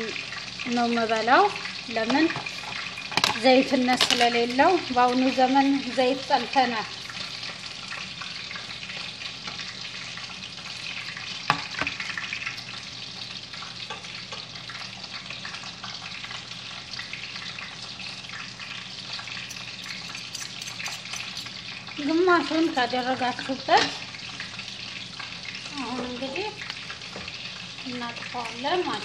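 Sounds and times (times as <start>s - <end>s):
eggs sizzling in frying pan: 0.0s - 29.0s.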